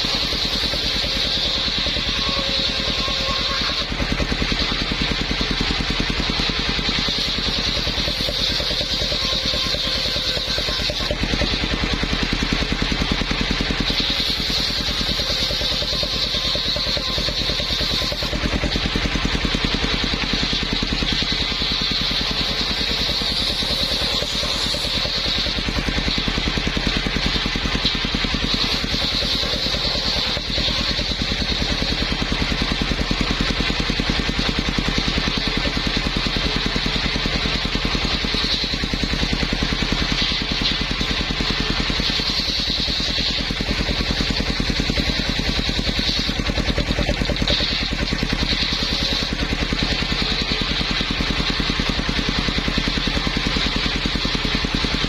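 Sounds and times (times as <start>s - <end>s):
engine running with even beat: 0.0s - 55.0s
saw blade whining: 0.0s - 55.0s.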